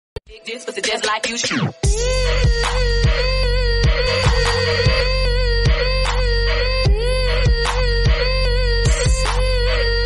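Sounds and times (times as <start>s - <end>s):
deep bass and beat: 0.9s - 10.0s.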